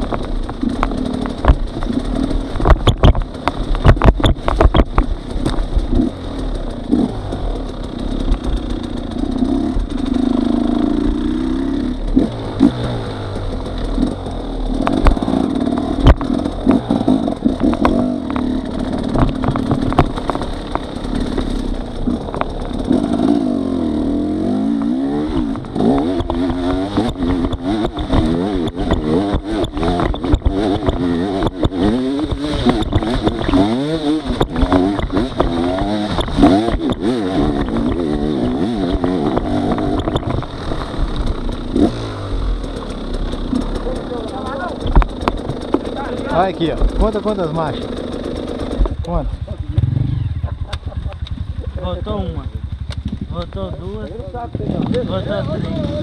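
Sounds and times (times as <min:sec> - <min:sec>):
knocks and clatter: 0:00.0 - 0:23.8, 0:24.4 - 0:49.9
motorcycle engine revving: 0:00.0 - 0:56.0.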